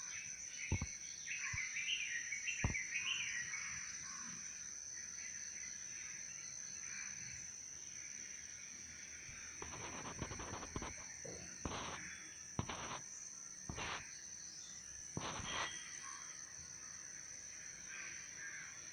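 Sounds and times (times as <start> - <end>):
insect chirring: 0.1 - 18.9.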